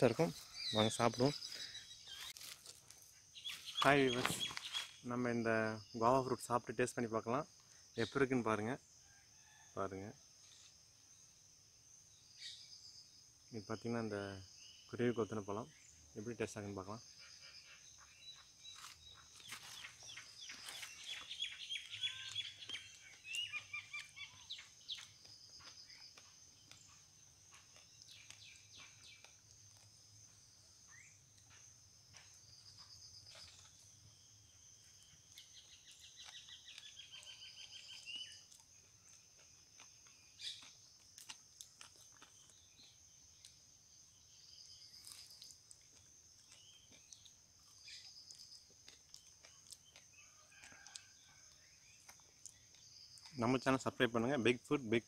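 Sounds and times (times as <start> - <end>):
small birds twittering: 0.0 - 8.8, 12.1 - 55.0.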